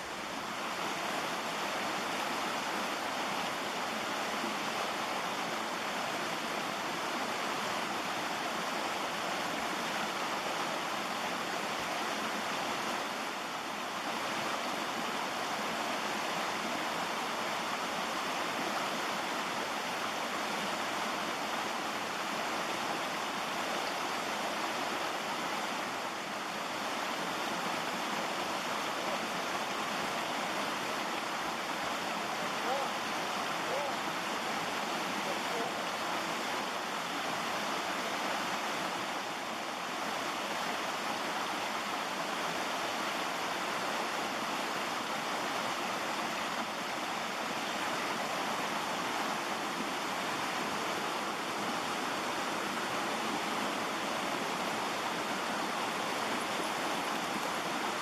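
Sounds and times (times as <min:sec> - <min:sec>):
creek rushing over rocks: 0:00.0 - 0:58.0.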